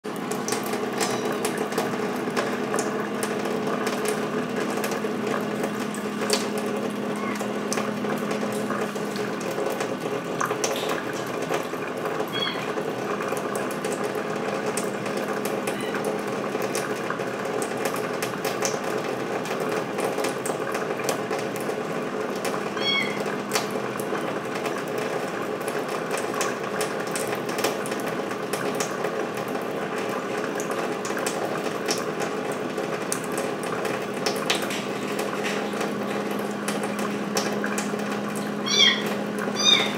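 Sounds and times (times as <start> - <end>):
cat lapping water: 0.0 - 39.9
tap water running into sink: 0.0 - 39.9.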